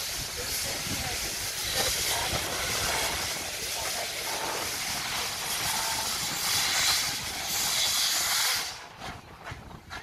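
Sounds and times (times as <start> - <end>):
steam locomotive hissing: 0.0 - 10.0
steam locomotive puffs: 0.0 - 10.0.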